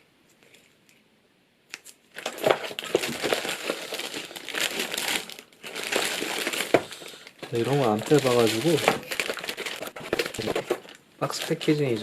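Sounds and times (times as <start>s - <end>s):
packaging crinkling: 1.7s - 12.0s.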